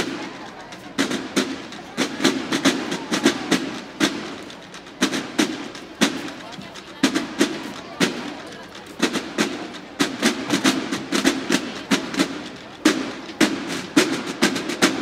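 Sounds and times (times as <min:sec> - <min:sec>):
snare drums marching cadence: 0:00.0 - 0:15.0.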